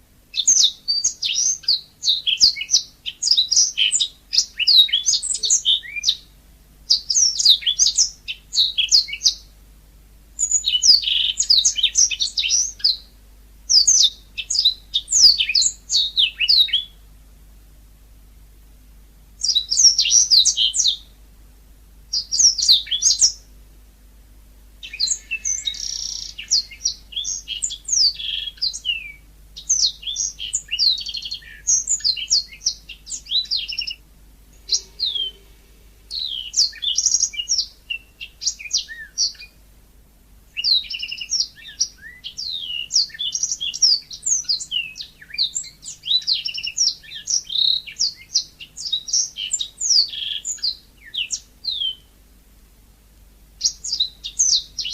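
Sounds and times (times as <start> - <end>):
canary singing: 0.3 - 6.3, 6.9 - 9.5, 10.4 - 13.1, 13.7 - 17.0, 19.4 - 21.1, 22.1 - 23.4, 24.8 - 39.6, 40.6 - 52.1, 53.6 - 54.9.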